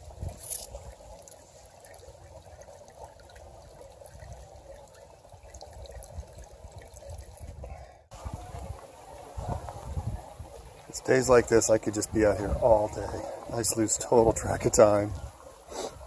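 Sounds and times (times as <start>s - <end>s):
creek trickling: 0.0s - 16.0s.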